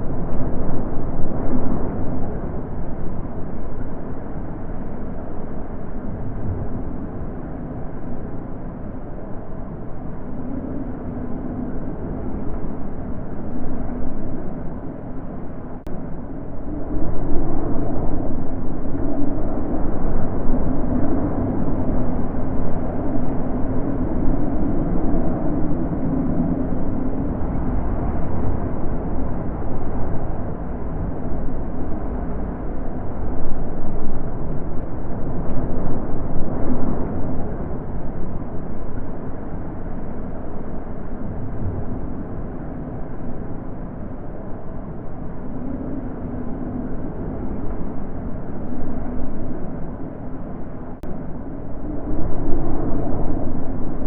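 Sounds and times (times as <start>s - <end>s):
wind blowing in gusts: 0.0s - 54.0s.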